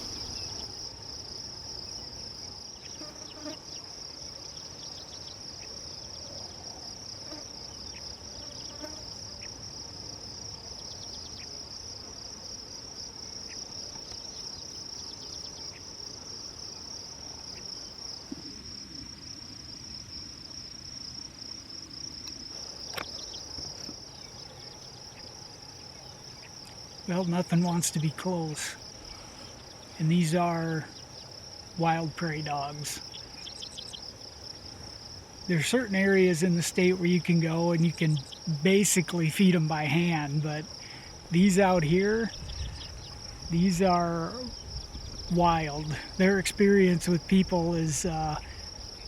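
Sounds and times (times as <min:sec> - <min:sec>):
insects droning in grass: 0:00.0 - 0:49.0.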